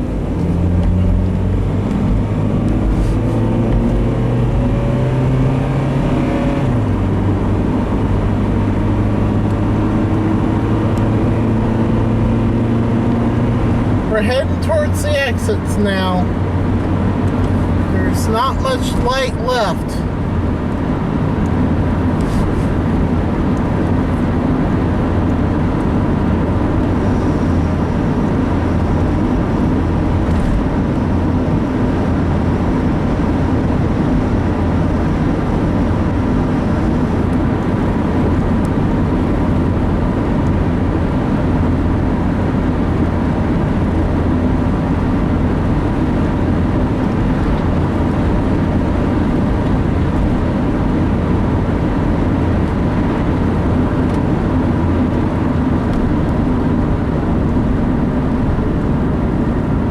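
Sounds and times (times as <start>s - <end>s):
vehicle engine and road drone: 0.0s - 59.9s.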